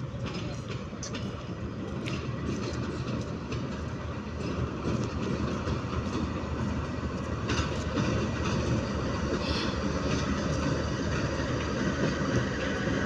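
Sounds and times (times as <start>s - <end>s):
diesel locomotive engine chugging: 0.0s - 13.0s.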